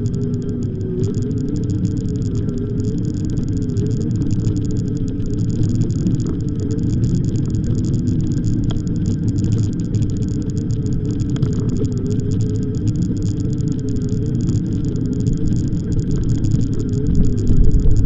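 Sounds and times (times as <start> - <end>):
low wavering hum: 0.0 - 18.0
wind rumble on microphone: 0.0 - 18.0.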